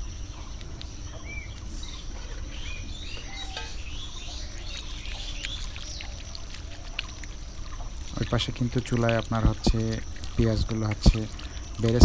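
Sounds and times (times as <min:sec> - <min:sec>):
birds chirping: 0:00.0 - 0:12.0
high insect drone: 0:00.0 - 0:12.0.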